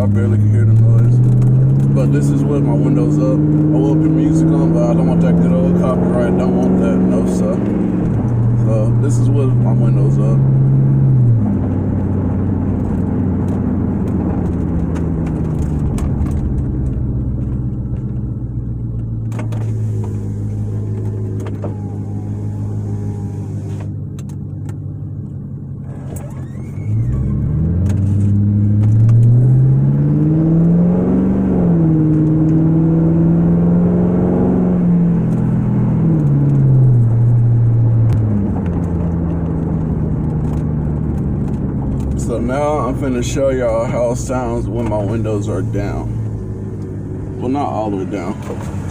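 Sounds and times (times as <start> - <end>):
car exhaust drone from inside: 0.0 - 48.9.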